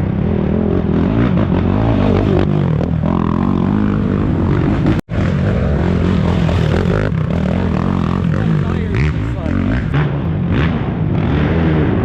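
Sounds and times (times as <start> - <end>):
atv engines revving: 0.0 - 12.0.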